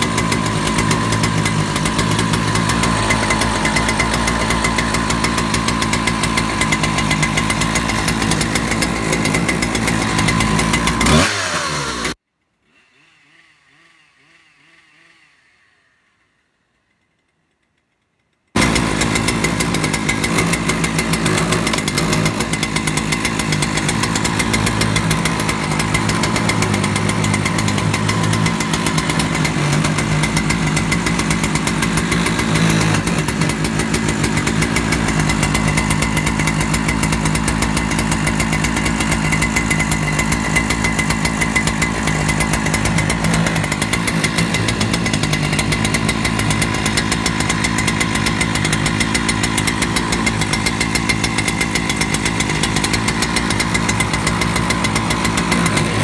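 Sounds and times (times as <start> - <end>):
chainsaw engine running: 0.0 - 12.2, 18.6 - 56.0.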